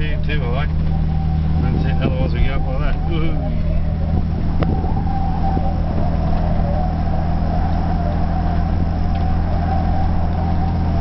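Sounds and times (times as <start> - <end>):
car engine droning: 0.0 - 11.0
faint wavering whine: 0.0 - 11.0.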